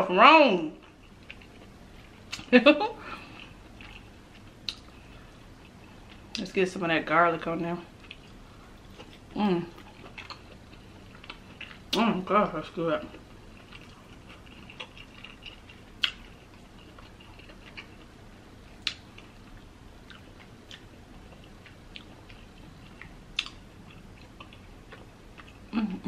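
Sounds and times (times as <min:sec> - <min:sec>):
close-up chewing: 0:00.8 - 0:02.4, 0:03.1 - 0:06.4, 0:07.9 - 0:12.0, 0:13.0 - 0:26.0.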